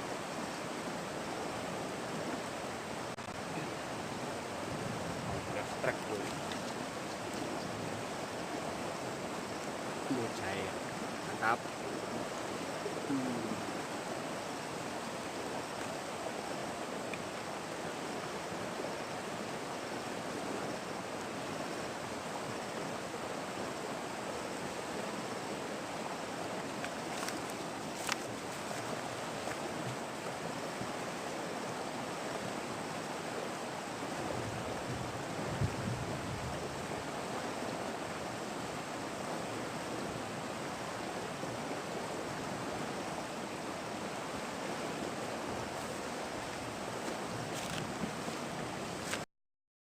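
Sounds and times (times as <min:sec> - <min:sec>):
river water rushing: 0:00.0 - 0:49.2.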